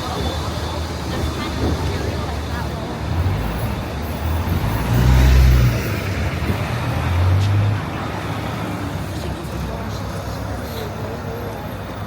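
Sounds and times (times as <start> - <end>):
passing vehicles rumbling: 0.0 - 12.0
heavy vehicle passing: 1.0 - 11.2.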